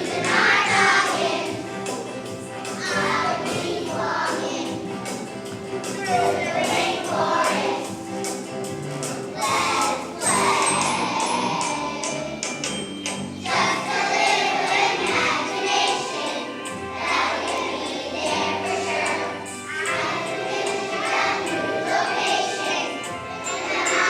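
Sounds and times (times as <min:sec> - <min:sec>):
children singing in unison: 0:00.0 - 0:08.1, 0:09.3 - 0:12.6, 0:13.4 - 0:24.0
musical accompaniment with beat: 0:00.0 - 0:24.0.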